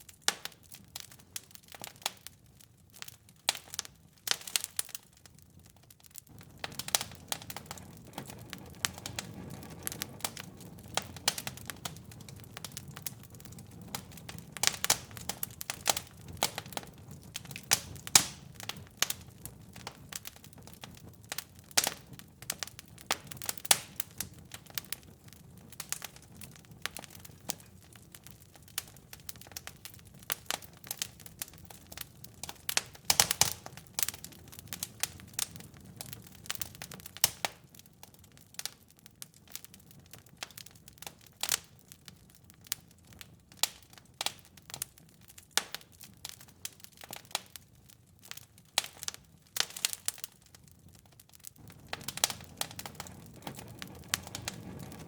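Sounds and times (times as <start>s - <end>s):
wood fire crackling and popping: 0.0s - 55.0s
flames rumbling: 0.1s - 55.0s.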